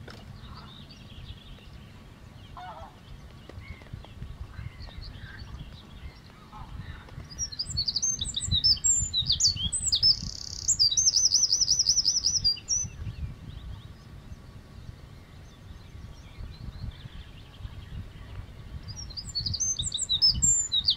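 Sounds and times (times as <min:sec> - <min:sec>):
wren singing: 0:00.3 - 0:20.9.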